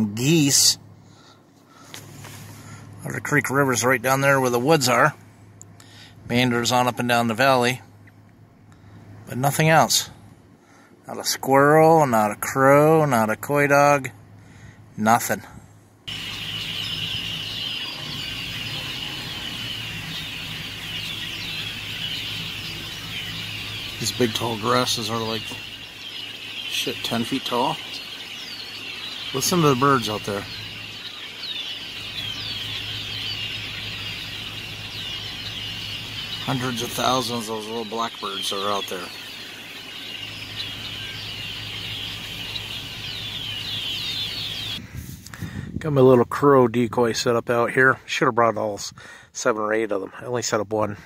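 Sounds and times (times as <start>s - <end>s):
flock of birds chattering: 0.0s - 7.8s, 8.8s - 10.1s, 10.7s - 15.4s, 16.1s - 44.8s.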